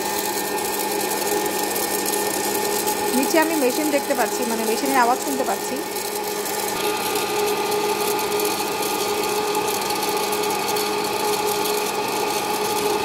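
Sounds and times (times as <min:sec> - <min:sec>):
popcorn maker fan humming: 0:00.0 - 0:13.0.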